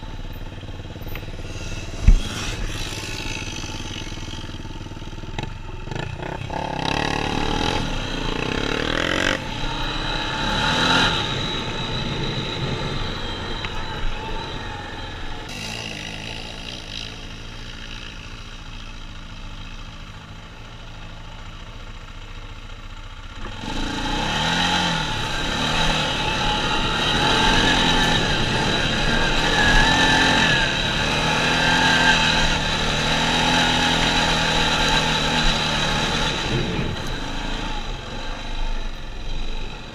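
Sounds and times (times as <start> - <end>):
atv engine revving: 0.0 - 19.6, 23.4 - 39.9.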